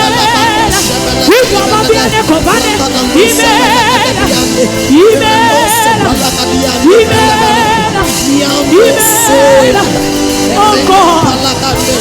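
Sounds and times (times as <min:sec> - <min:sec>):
band accompaniment: 0:00.0 - 0:12.0
person singing gospel with vibrato: 0:00.0 - 0:12.0.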